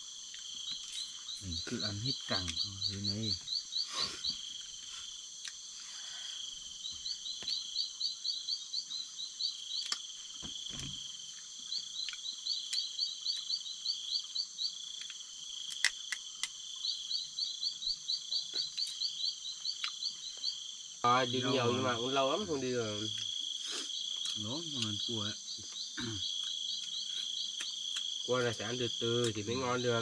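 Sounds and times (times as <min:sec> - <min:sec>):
frogs and insects shrill hum: 0:00.0 - 0:30.0.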